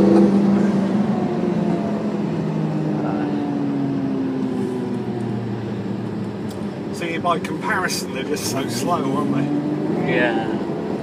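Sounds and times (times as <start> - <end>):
car engine from inside cabin: 0.0 - 11.0
road noise rush: 0.0 - 11.0.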